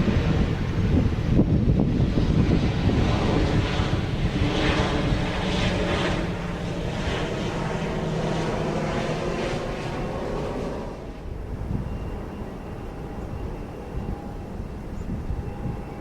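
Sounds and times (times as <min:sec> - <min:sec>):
airliner engines roaring: 0:00.0 - 0:16.0.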